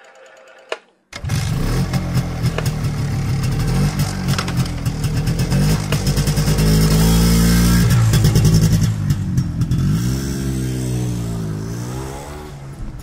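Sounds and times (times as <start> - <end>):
engine revving: 1.2 - 13.0.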